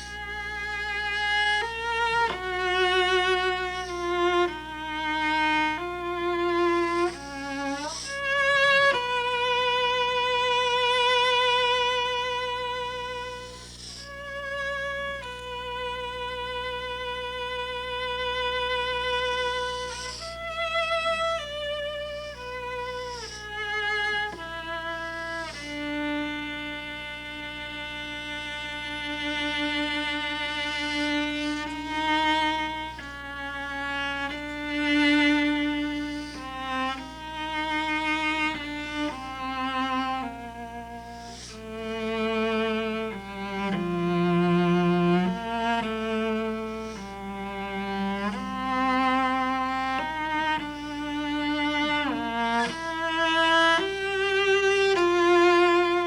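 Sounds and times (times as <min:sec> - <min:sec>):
solo cello melody: 0:00.0 - 0:56.0.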